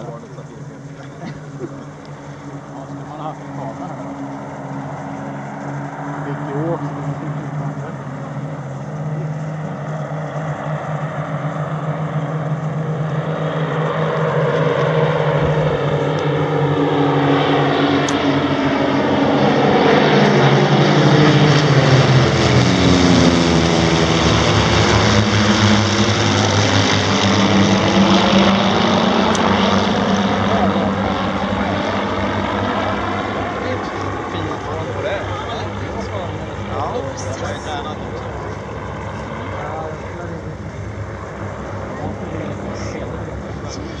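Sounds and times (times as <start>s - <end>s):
propeller planes flying past: 0.0s - 44.0s.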